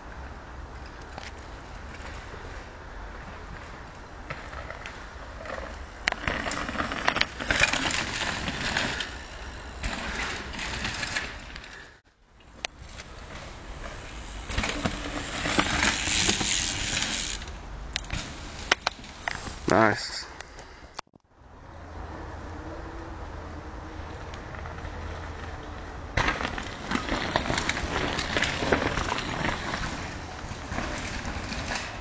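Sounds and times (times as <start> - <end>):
bikes knocking and rattling: 0.0 - 21.0, 24.1 - 32.0.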